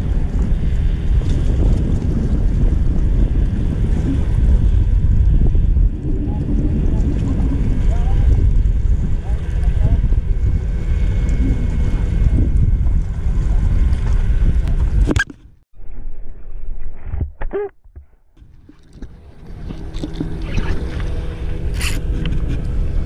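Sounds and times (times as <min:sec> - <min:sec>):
wind buffeting microphone: 0:00.0 - 0:15.6, 0:18.4 - 0:23.0
boat engine rumbling: 0:00.0 - 0:15.7, 0:17.7 - 0:23.0.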